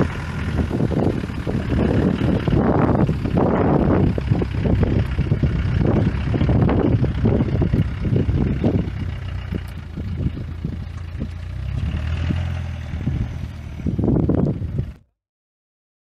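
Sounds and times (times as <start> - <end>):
wind buffeting microphone: 0.0 - 15.0
car engine running: 0.0 - 15.1.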